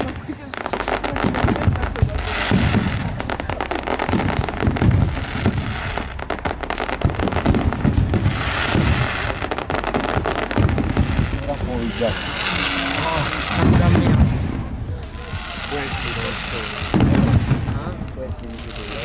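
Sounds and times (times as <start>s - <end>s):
deep fireworks booms: 0.0s - 19.0s
fireworks crackling: 0.0s - 19.0s.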